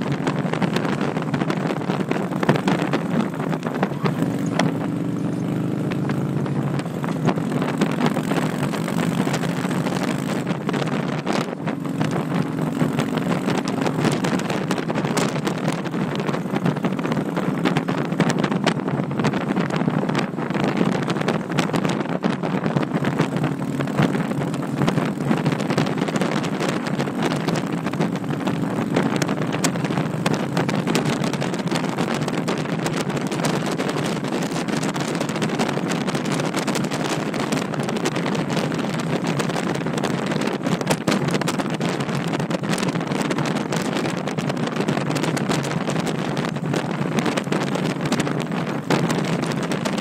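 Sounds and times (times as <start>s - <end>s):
motorcycle engine cruising: 0.0s - 50.0s
wind rushing over microphone: 0.0s - 50.0s.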